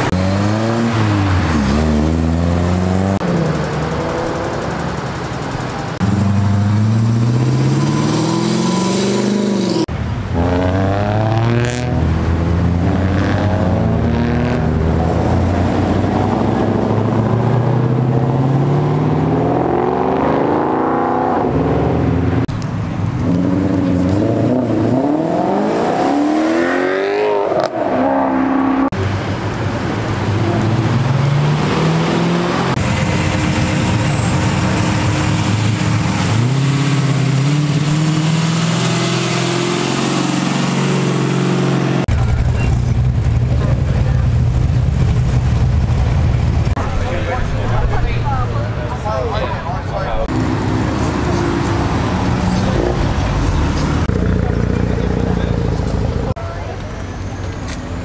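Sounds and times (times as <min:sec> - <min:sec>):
car engines revving and accelerating: 0:00.0 - 0:58.0.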